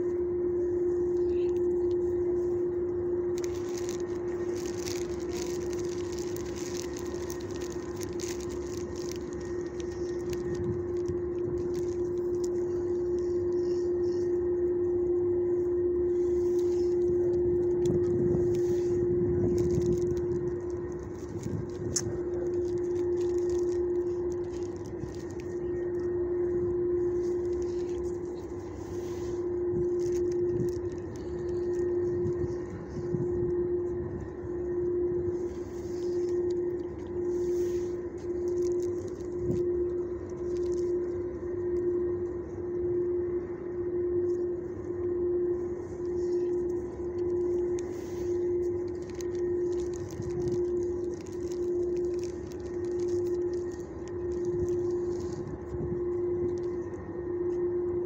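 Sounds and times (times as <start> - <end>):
rustling handling noise: 0.0 - 58.0
steady mechanical hum: 0.0 - 58.0.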